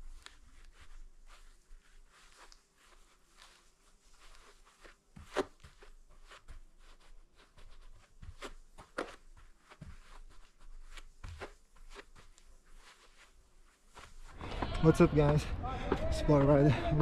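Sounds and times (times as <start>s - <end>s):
faint knocks and rustles: 0.1s - 15.4s.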